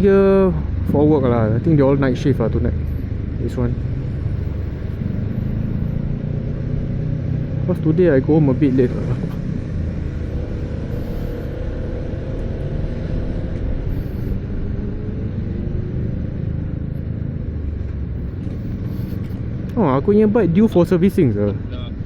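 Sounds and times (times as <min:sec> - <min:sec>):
motorcycle engine rumble: 0:00.0 - 0:22.0
road and wind noise: 0:00.0 - 0:22.0.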